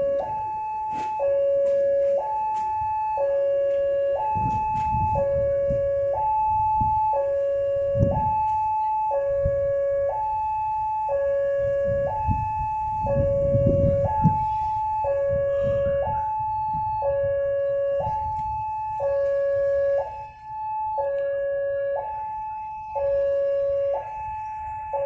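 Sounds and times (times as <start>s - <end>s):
two-tone crossing warning siren: 0.0s - 25.0s.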